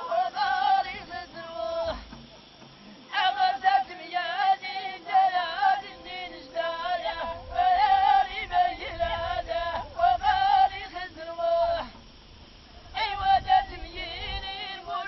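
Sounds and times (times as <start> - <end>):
voices chanting a melody: 0.0 - 15.0.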